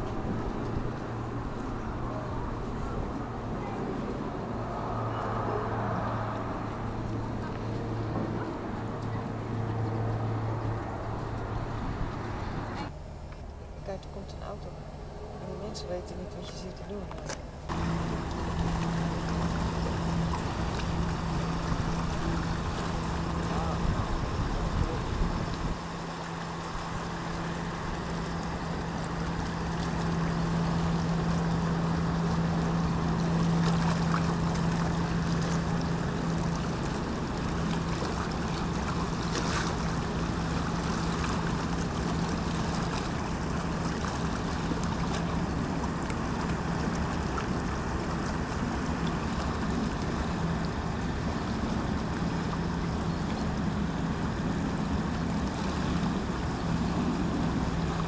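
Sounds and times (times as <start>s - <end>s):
boat engine drone: 0.0s - 58.0s.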